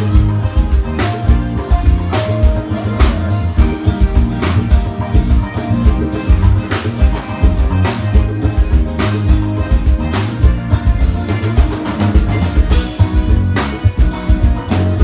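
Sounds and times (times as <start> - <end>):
drum and cymbal hits: 0.0 - 15.0
live band playing: 0.0 - 15.0.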